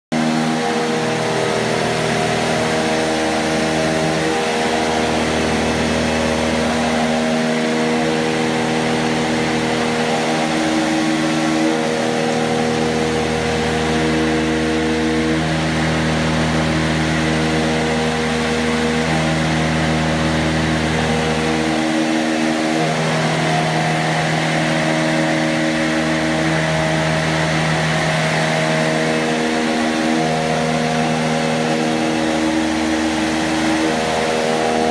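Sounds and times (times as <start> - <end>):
centrifuge hum: 0.1 - 34.9.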